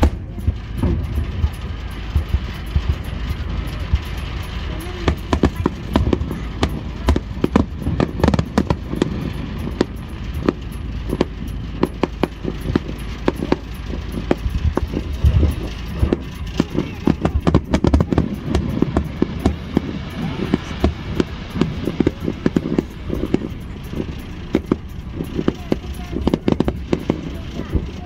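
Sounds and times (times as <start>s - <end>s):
fireworks bangs and crackles: 0.0s - 28.0s
low rumble: 0.0s - 28.0s.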